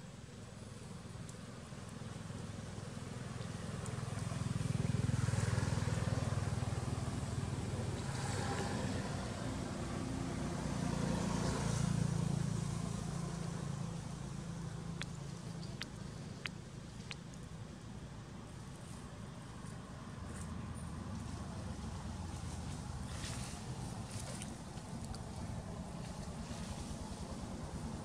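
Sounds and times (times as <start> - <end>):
vehicle engine humming: 2.0 - 28.0.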